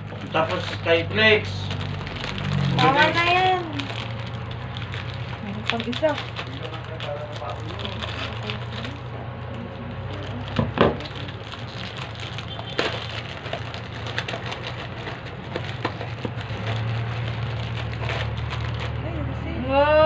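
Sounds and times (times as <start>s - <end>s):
plastic wrapper crinkling and tearing: 0.0s - 19.0s.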